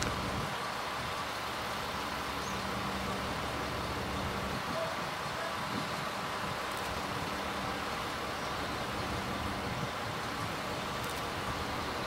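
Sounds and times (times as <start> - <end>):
diesel railcars idling: 0.0 - 12.0.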